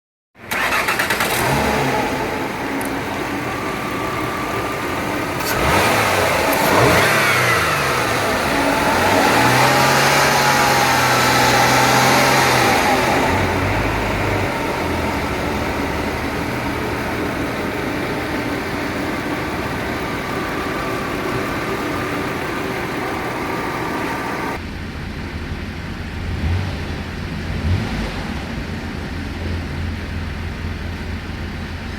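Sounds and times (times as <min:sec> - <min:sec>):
car engine idling and revving: 0:00.4 - 0:31.9.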